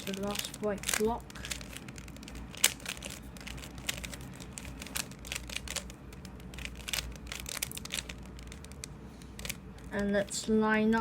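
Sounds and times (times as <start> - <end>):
puzzle cube clicking: 0.0 - 10.1.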